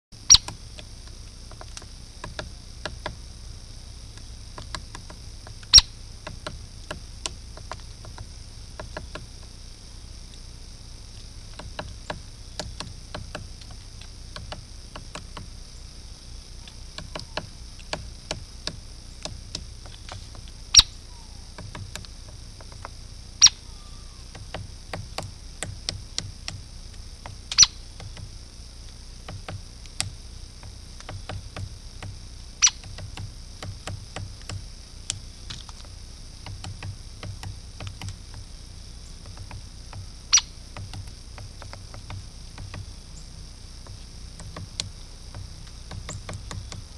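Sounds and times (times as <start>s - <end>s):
loud woodpecker strikes: 0.2s - 3.3s, 4.1s - 9.6s, 11.1s - 28.4s, 29.1s - 46.9s
steady hiss: 0.2s - 46.9s
woodpecker tapping on bark: 0.3s - 3.2s, 4.1s - 9.5s, 11.1s - 15.6s, 16.6s - 46.9s.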